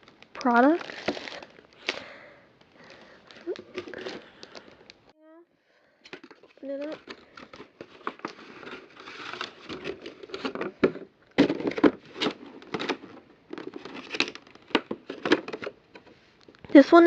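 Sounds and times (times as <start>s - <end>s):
packaging crinkling and rustling: 0.0s - 5.1s, 6.0s - 17.0s.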